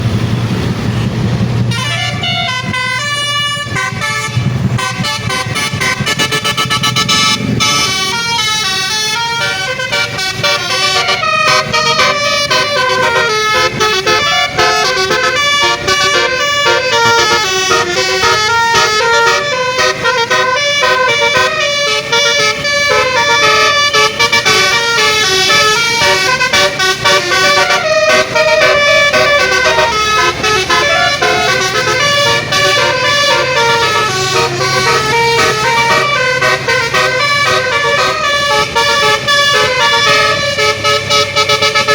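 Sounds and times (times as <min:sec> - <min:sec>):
musical bus air horn: 0:01.6 - 0:41.9.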